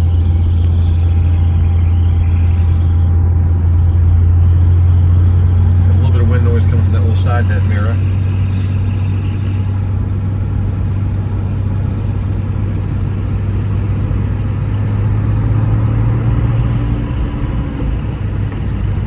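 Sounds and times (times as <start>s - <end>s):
car engine running: 0.0s - 19.0s
road noise: 0.0s - 19.0s.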